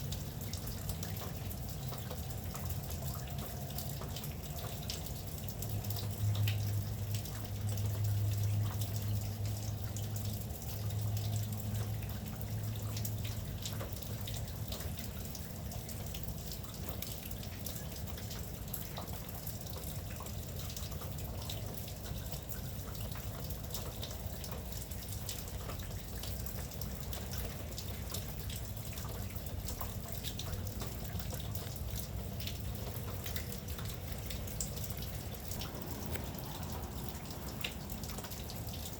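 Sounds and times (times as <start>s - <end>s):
steady rain: 0.0s - 38.9s
drops dripping and tapping: 0.1s - 38.9s.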